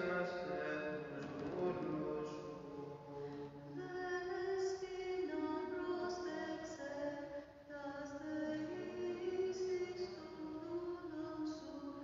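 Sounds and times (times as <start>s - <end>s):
unaccompanied hymn chanting: 0.0s - 12.0s.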